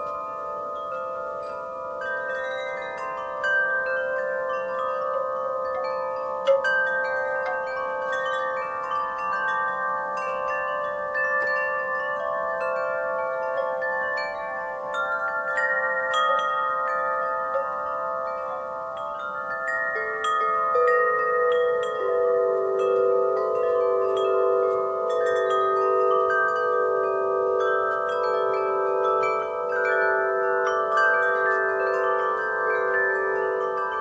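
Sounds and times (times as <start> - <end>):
wind chimes ringing: 0.0 - 34.0.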